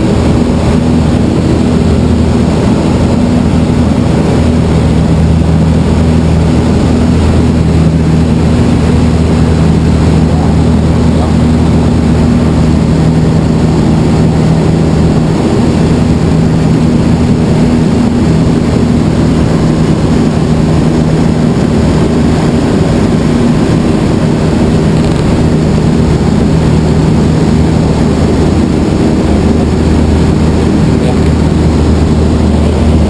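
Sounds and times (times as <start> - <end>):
aircraft engine and propeller droning: 0.0 - 33.0
rushing air: 0.0 - 33.0.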